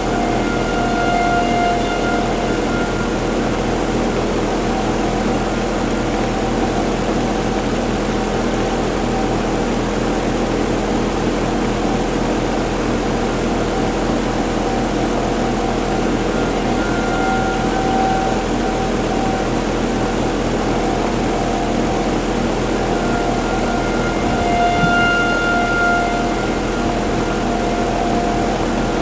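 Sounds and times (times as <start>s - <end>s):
low drone: 0.0s - 29.0s
outdoor warning sirens: 0.0s - 29.0s.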